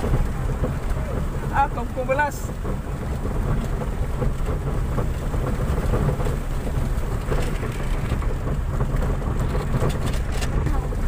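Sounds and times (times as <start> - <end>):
rattles and knocks: 0.0 - 11.0
vehicle rumbling over rough track: 0.0 - 11.0.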